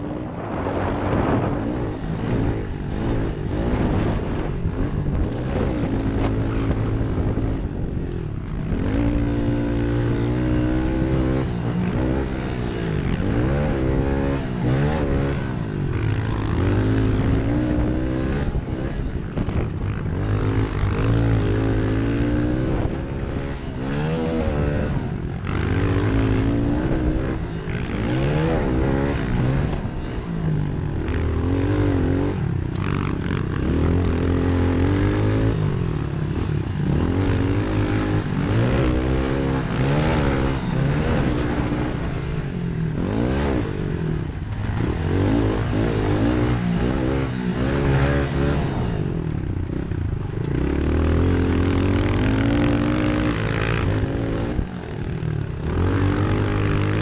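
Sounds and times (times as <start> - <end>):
dirt bike engine revving: 0.0 - 57.0
steady rush of noise: 0.0 - 57.0.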